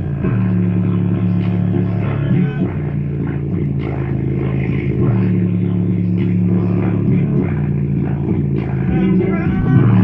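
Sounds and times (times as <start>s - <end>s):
subwoofer deep bass notes: 0.0s - 10.0s.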